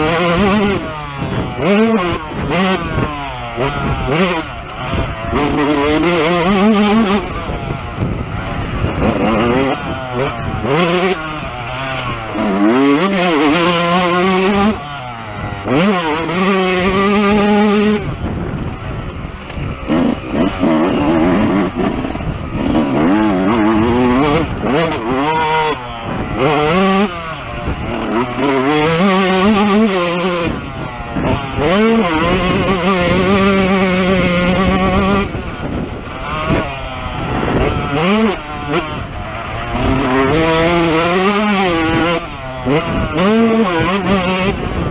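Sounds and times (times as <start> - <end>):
two-stroke motorcycle engine revving: 0.0 - 44.9.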